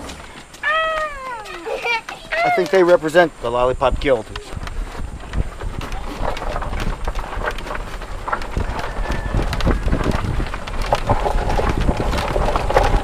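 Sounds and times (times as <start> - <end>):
cart knocking and clattering: 0.0 - 13.0.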